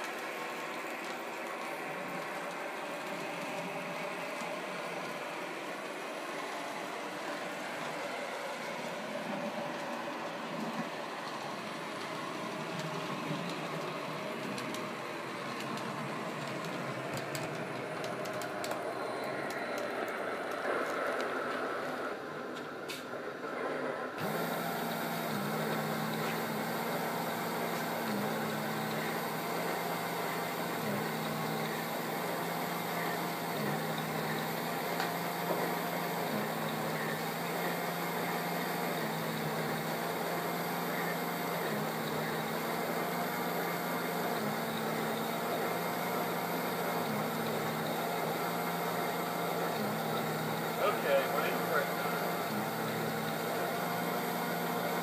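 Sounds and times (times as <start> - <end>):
turntable motor humming: 0.0 - 55.0.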